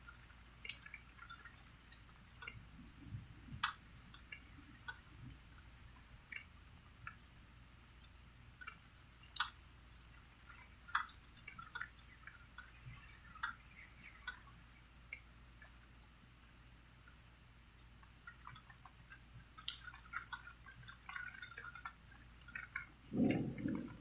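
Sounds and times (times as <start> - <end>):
water drops dripping: 0.0 - 16.2, 17.0 - 24.0
faint low hum: 0.0 - 24.0.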